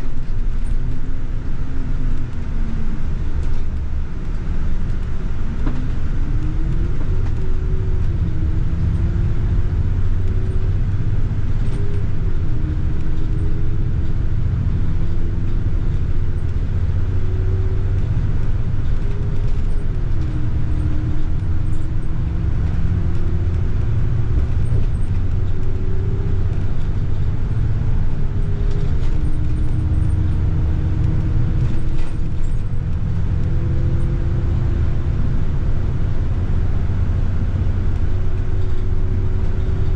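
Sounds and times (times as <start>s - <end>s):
bus engine rumble: 0.0s - 39.9s
rising engine whine: 0.0s - 39.9s.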